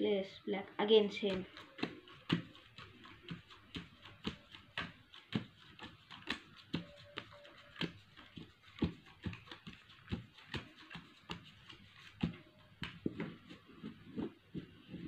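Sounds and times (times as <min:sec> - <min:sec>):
playing cards tapping on cloth table: 0:01.3 - 0:14.7.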